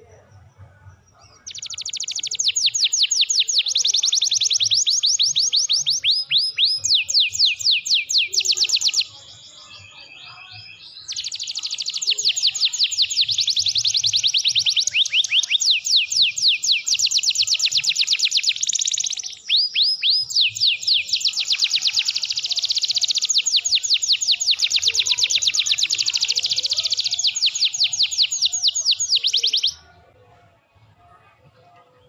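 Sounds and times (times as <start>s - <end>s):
canary singing trills: 0.0s - 30.2s.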